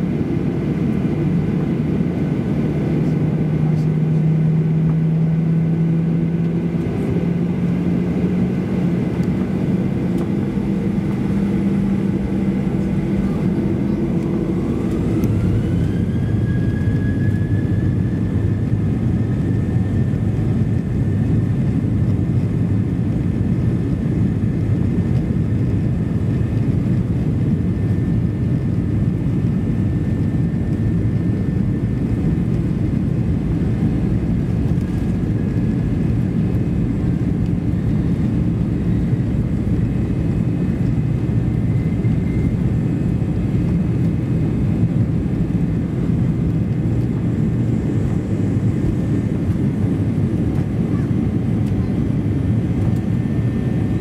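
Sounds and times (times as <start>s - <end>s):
jet engine rumble from cabin: 0.0s - 54.0s
jet engine whine: 0.0s - 54.0s.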